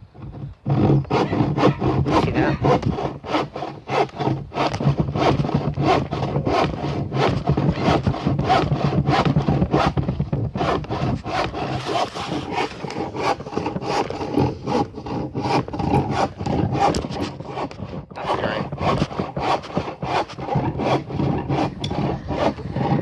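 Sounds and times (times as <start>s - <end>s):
hand tool working wood: 0.0s - 23.0s.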